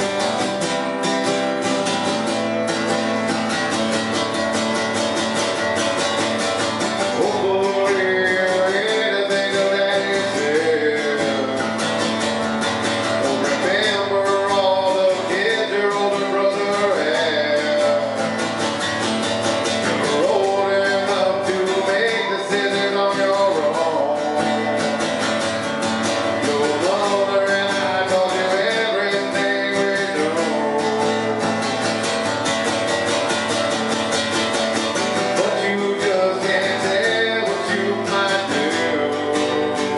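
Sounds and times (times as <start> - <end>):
man singing: 0.0 - 39.9
strummed acoustic guitar: 0.0 - 39.9.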